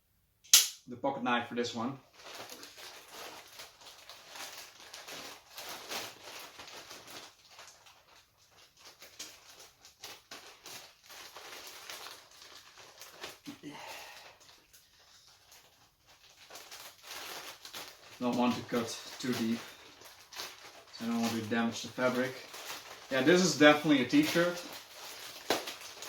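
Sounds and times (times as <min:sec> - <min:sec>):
packaging crinkling and rustling: 0:02.0 - 0:26.0.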